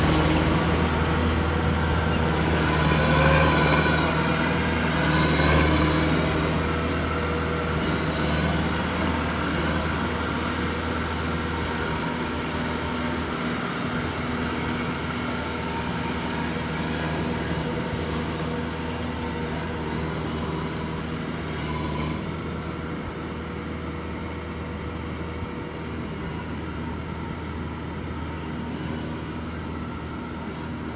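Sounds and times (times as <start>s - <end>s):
engine running: 0.0s - 30.9s.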